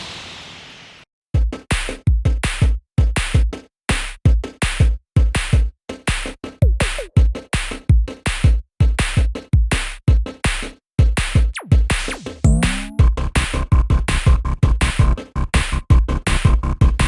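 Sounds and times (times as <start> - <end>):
electronic music with drum-machine beat: 1.4 - 17.0.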